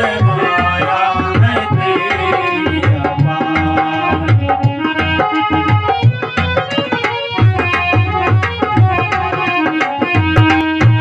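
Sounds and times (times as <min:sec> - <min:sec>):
hand drum rhythm: 0:00.0 - 0:11.0
harmonium melody: 0:00.0 - 0:11.0.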